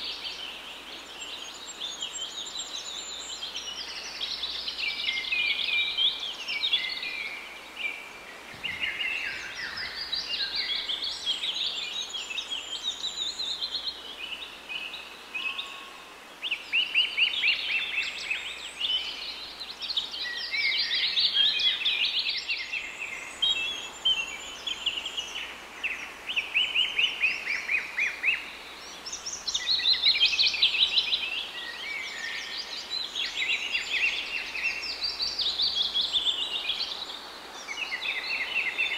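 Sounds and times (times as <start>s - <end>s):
faint outdoor hiss: 0.0s - 38.9s
small birds chirping: 0.0s - 38.9s.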